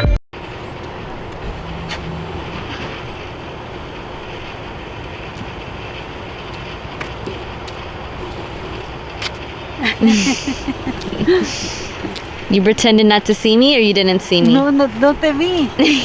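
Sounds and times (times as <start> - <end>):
wind on microphone: 0.4 - 16.0.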